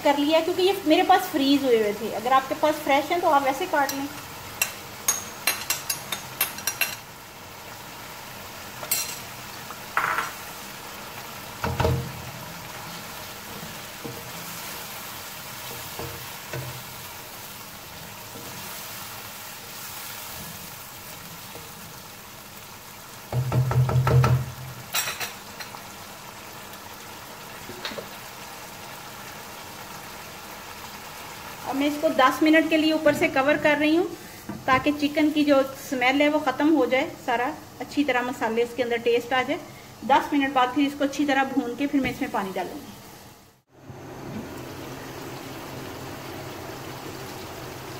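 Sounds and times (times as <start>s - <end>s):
chicken sizzling in oil: 0.1s - 47.9s.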